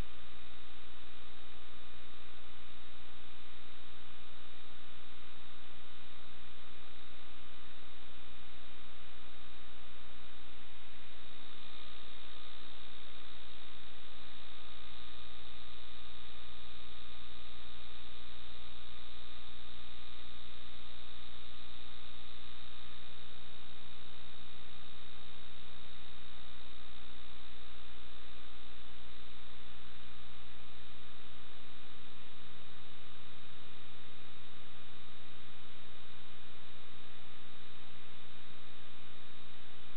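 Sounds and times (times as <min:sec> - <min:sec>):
constant high whine: 0:00.0 - 0:39.9
steady hum and hiss: 0:00.0 - 0:39.9.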